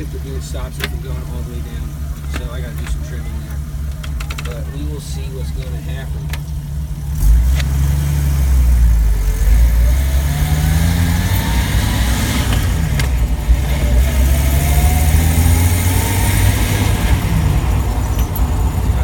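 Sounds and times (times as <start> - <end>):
vehicle drivetrain whine: 0.0 - 19.0.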